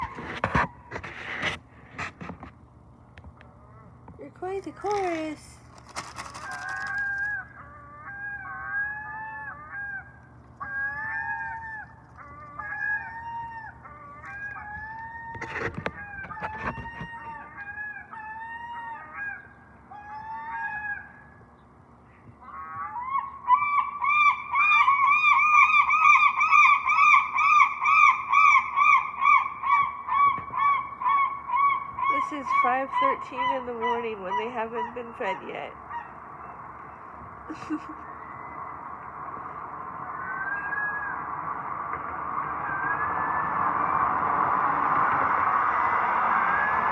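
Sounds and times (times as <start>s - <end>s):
gulls calling: 3.6s - 44.2s.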